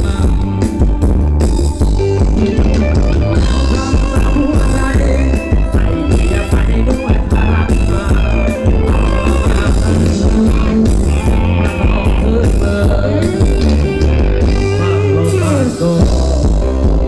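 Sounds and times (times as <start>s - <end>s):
electric guitar melody: 0.0s - 17.0s
live band dance music: 0.0s - 17.0s.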